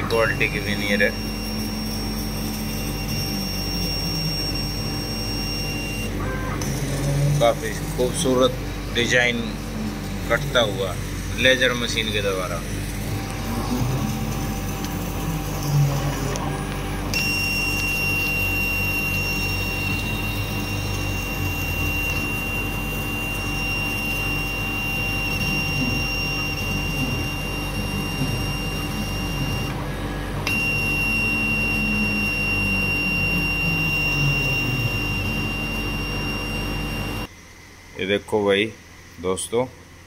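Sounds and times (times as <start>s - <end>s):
high-pitched whine: 0.0s - 37.8s
machine and fan hum: 0.0s - 40.0s.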